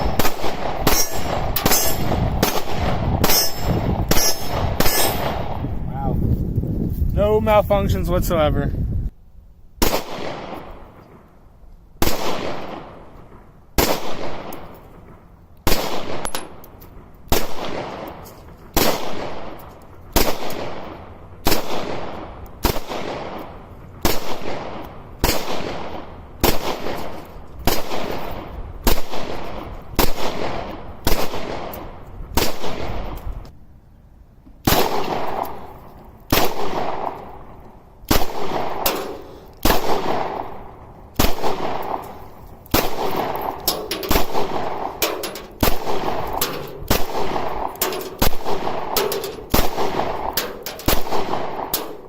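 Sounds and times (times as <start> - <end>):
gunshot echo: 0.0 - 5.7, 9.8 - 11.0, 12.0 - 13.1, 13.8 - 16.6, 17.3 - 19.6, 20.2 - 33.2, 34.6 - 35.7, 36.3 - 37.4, 38.1 - 52.0
gunshots: 0.0 - 5.7, 9.8 - 11.0, 12.0 - 13.1, 13.8 - 14.7, 15.6 - 16.6, 17.3 - 33.2, 34.6 - 35.7, 36.3 - 37.4, 38.1 - 52.0.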